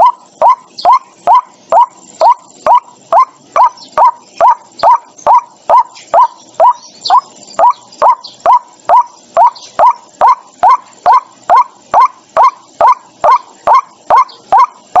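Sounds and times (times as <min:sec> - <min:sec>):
bird calling harsh notes: 0:00.0 - 0:15.0.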